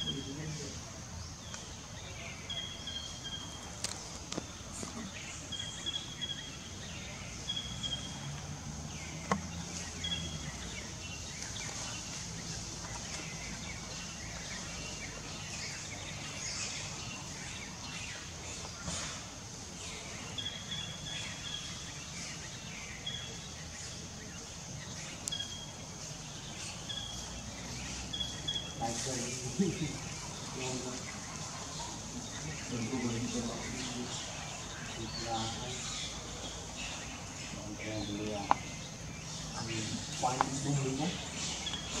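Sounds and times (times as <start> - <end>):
steady high hiss: 0.0 - 42.0.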